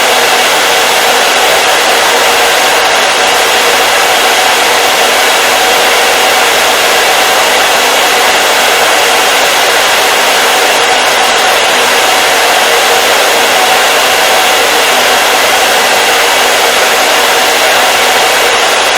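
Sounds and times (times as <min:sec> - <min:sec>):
hair dryer running: 0:00.0 - 0:18.9.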